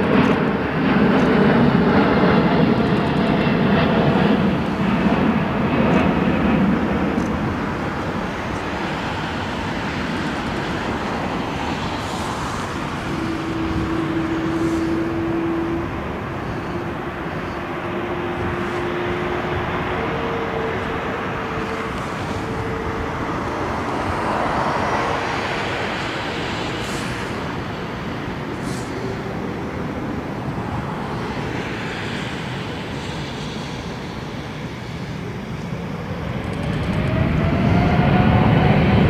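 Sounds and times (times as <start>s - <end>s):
jet engine whine: 0.0s - 39.0s
jet engines rushing: 0.0s - 39.0s.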